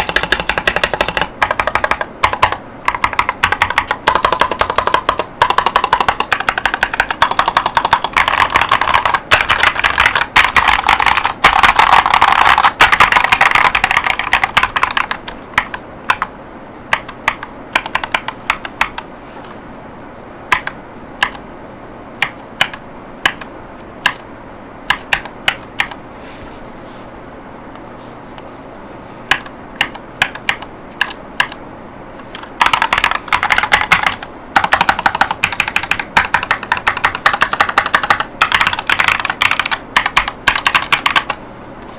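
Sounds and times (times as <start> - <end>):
mechanical keyboard typing: 0.0 - 16.3, 16.9 - 19.1, 20.5 - 21.4, 22.2 - 24.2, 24.9 - 26.0, 29.3 - 31.6, 32.2 - 41.4.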